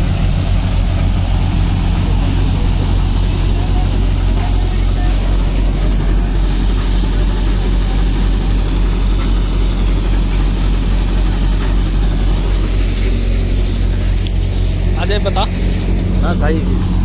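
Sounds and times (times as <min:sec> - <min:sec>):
thresher engine running: 0:00.0 - 0:17.0.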